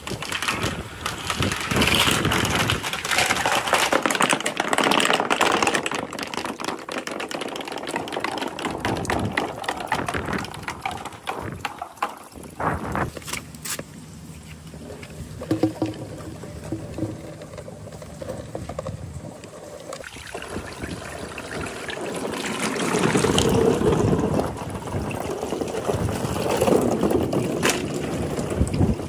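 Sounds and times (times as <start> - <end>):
balls clacking down marble run: 0.0 - 12.6, 15.4 - 20.1, 21.4 - 29.0.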